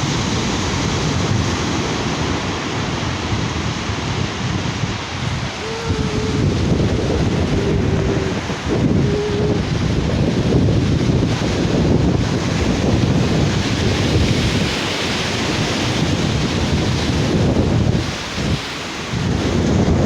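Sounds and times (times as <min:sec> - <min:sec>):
sea waves washing onto beach: 0:00.0 - 0:20.0
wind buffeting microphone: 0:00.0 - 0:20.0.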